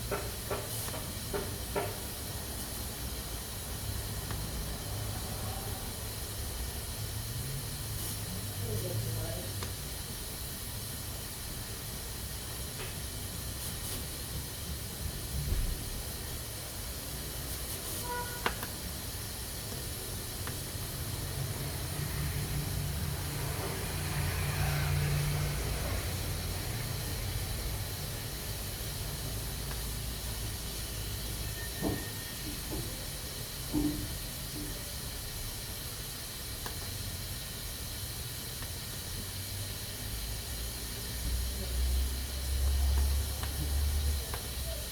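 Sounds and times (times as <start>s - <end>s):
pressure cooker hissing: 0.0s - 44.9s.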